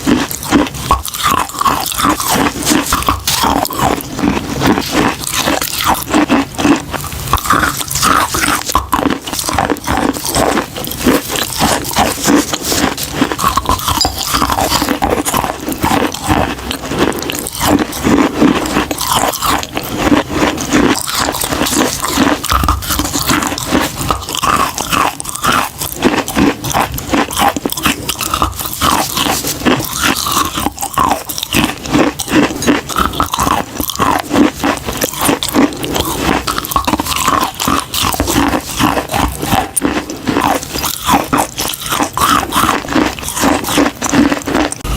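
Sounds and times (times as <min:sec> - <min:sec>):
person chewing chalk crunching: 0:00.0 - 0:44.9.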